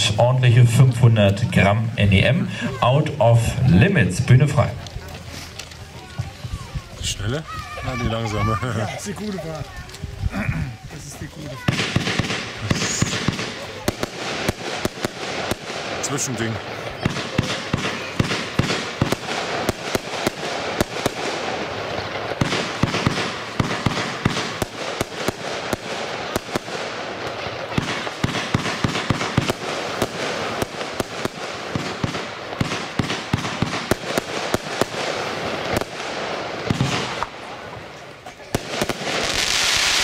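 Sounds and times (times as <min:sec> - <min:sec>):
fireworks shots and bursts: 0:00.0 - 0:40.0
fireworks hissing: 0:02.0 - 0:40.0.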